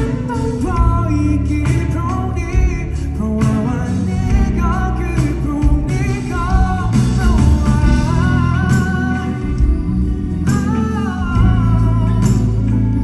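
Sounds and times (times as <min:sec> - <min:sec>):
amplified backing band: 0:00.0 - 0:13.0
man singing into microphone: 0:00.0 - 0:13.0.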